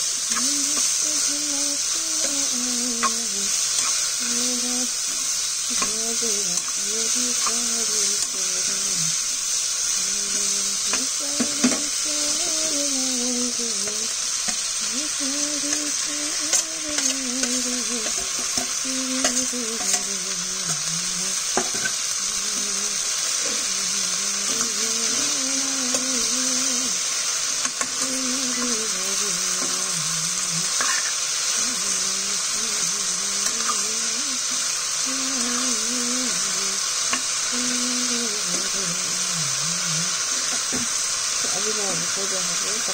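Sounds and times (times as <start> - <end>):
okra sizzling in a pan: 0.0 - 42.9.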